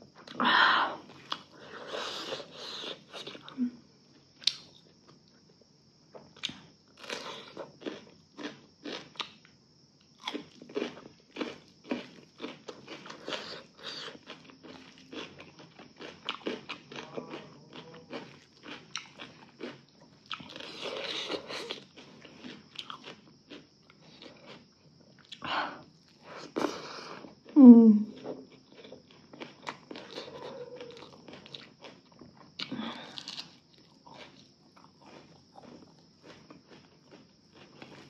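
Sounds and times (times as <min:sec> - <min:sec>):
crunching bites and chewing: 0:01.1 - 0:03.6, 0:04.3 - 0:05.4, 0:06.1 - 0:27.6, 0:28.2 - 0:38.0.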